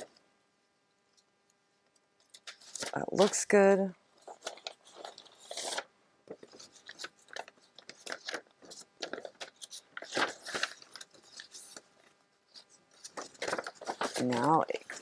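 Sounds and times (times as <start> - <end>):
paper rustling and crinkling: 2.2 - 15.0.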